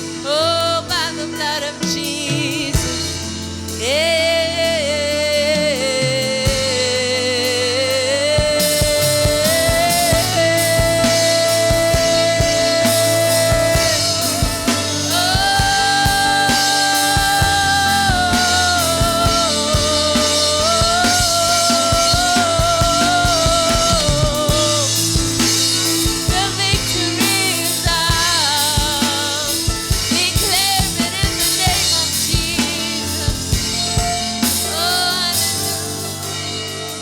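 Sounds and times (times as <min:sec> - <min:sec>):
drums: 0:00.0 - 0:37.0
gospel band backing: 0:00.0 - 0:37.0
person singing long notes: 0:00.8 - 0:37.0.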